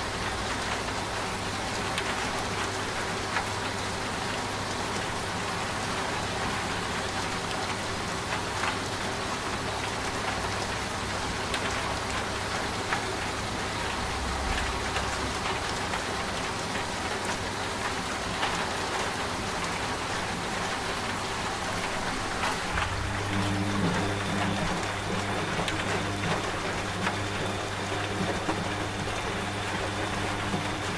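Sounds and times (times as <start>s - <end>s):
rain pattering: 0.0s - 30.9s
washing machine humming: 0.0s - 30.9s.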